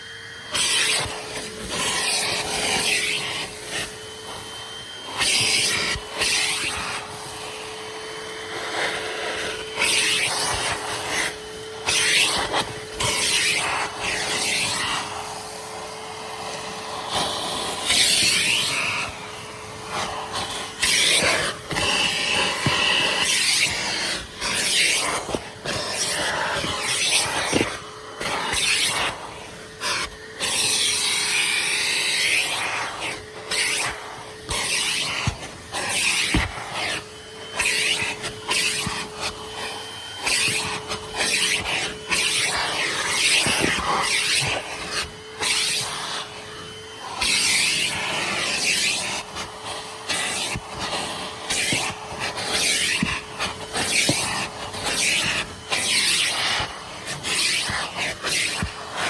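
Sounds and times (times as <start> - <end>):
tool rubbing on upholstery: 0.0 - 59.0
vacuum cleaner motor humming: 0.0 - 59.0.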